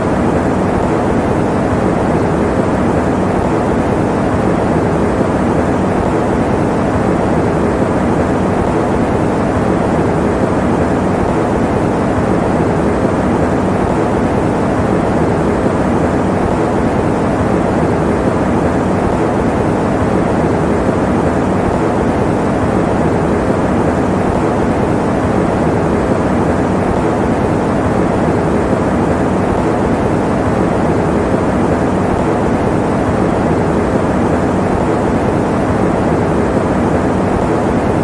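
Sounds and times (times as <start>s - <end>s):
electric fan running: 0.0s - 38.0s.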